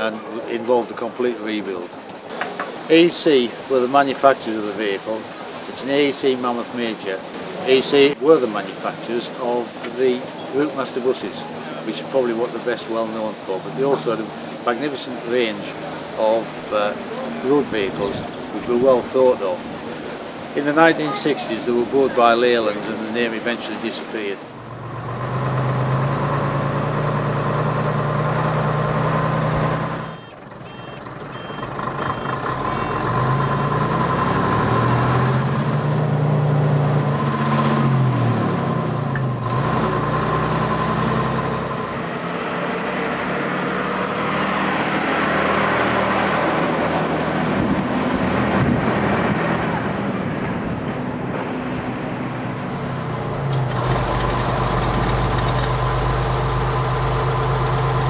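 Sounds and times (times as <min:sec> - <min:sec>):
lorry diesel engine: 0:00.0 - 0:58.0.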